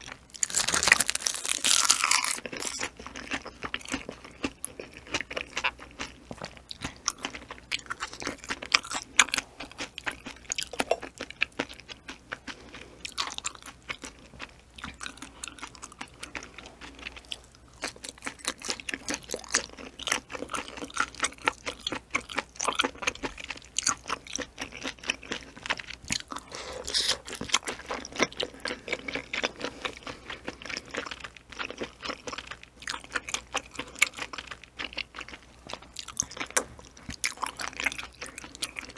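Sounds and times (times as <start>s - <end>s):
chewing jelly with mouth clicks: 0.0s - 38.9s.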